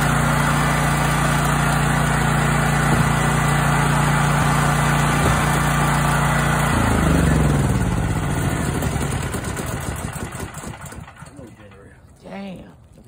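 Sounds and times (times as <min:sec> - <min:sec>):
generator engine running: 0:00.0 - 0:12.5.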